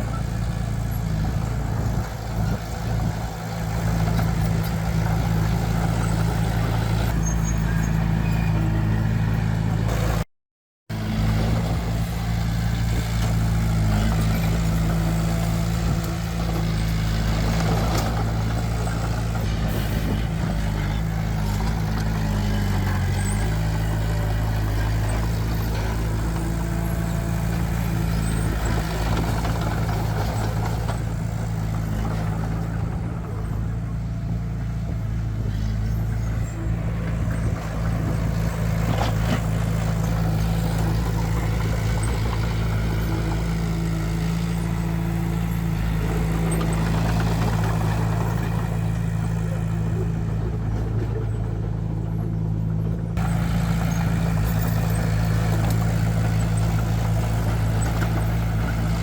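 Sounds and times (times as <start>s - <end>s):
heavy diesel engine running: 0.0s - 10.2s, 10.9s - 59.0s.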